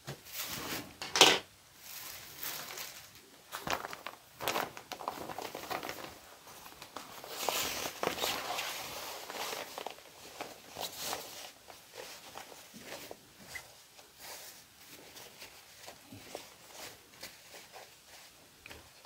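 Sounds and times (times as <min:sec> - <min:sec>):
nylon fabric rustling: 0:01.8 - 0:19.0.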